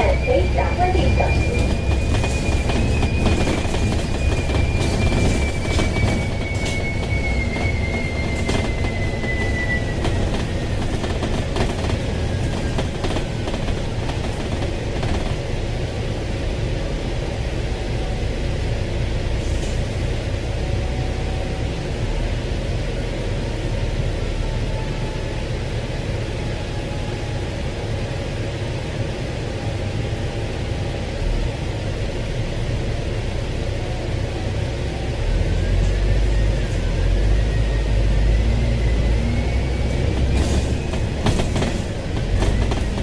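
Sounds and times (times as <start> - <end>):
bus engine rumble: 0.0 - 43.0
road noise: 0.0 - 43.0.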